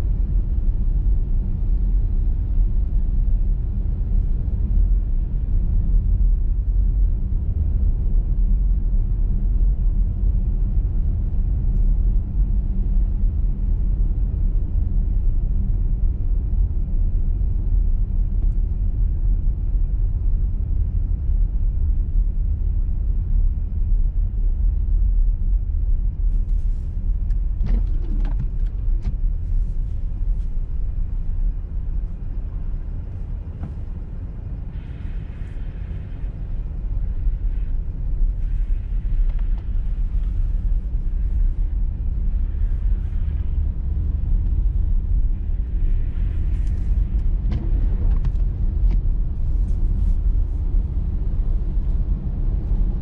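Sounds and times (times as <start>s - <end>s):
road and tyre noise: 0.0s - 53.0s.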